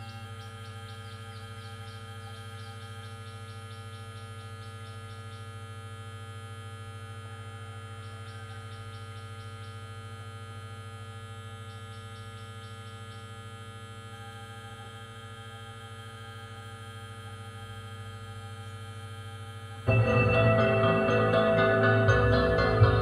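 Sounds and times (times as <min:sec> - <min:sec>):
electrical hum through speakers: 0:00.0 - 0:23.0.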